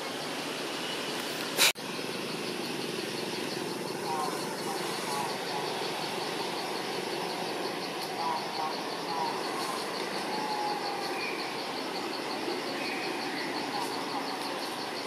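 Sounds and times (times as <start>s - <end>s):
insect chirping rapid pulsing: 1.8s - 15.0s.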